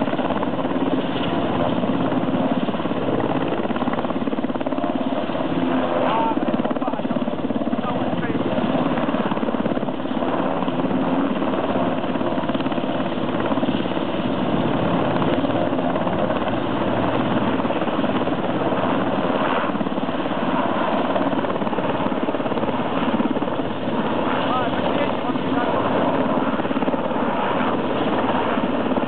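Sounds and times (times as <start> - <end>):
helicopter rotor blades chopping: 0.0 - 29.0.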